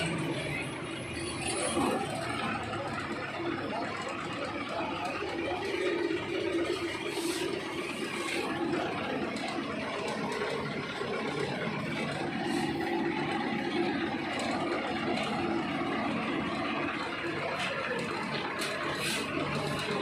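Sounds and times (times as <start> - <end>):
machinery engine humming: 0.0 - 20.0.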